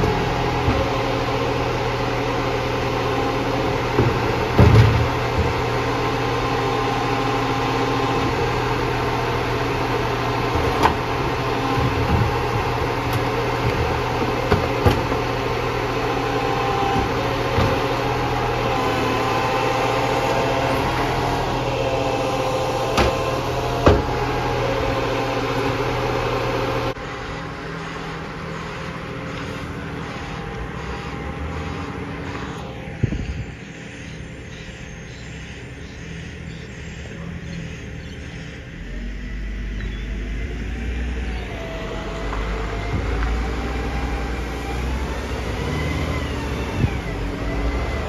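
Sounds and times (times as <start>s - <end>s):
garbage truck engine idling: 0.0s - 48.0s.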